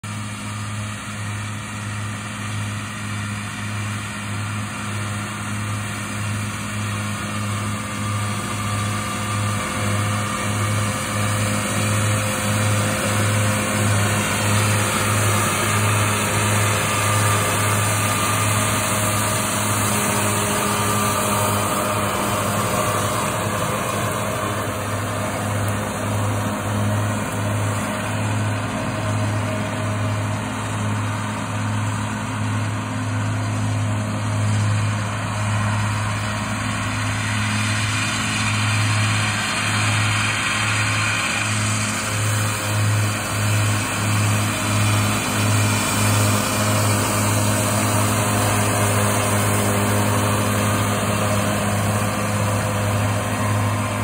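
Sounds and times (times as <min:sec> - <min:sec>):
mower engine hum: 0:00.0 - 0:54.0.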